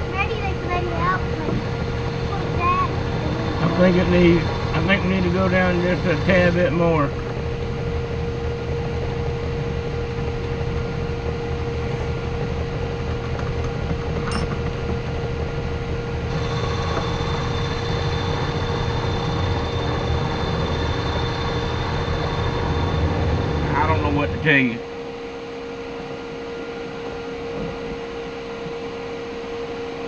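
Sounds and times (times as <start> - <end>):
thin high whine: 0.0 - 13.0, 14.2 - 30.0
lathe motor hum: 0.0 - 30.0.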